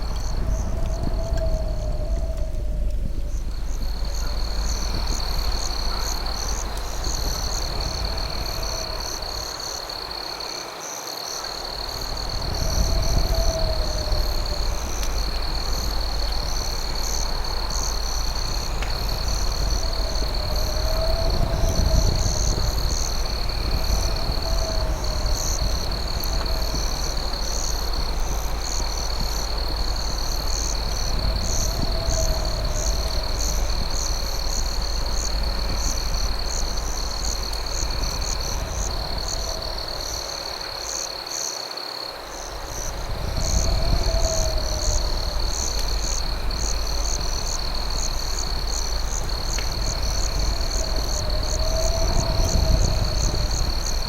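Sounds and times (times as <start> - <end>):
crickets trilling: 0.0 - 54.0
low rumbling haze: 0.0 - 54.0.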